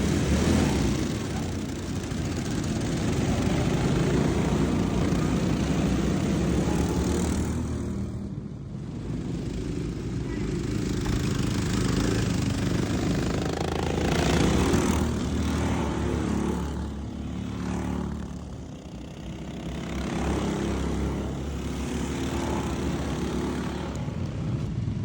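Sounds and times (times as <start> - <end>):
lawnmower engines revving: 0.0 - 25.0.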